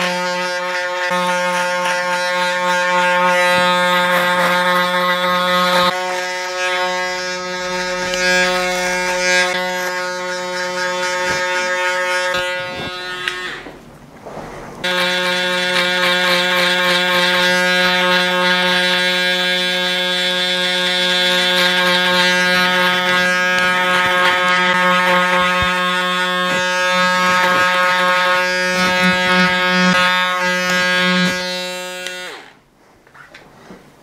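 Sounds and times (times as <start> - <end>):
electric shaver buzzing: 0.0 - 13.7, 14.8 - 32.6
shaver rasping stubble: 0.0 - 13.7, 14.8 - 32.4.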